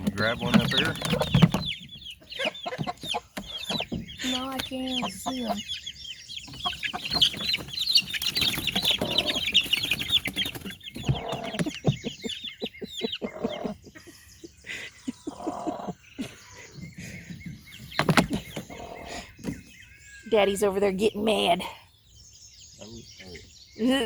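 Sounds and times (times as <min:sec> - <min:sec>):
hen clucking: 0:00.0 - 0:21.7
baby chicks peeping: 0:00.0 - 0:24.0.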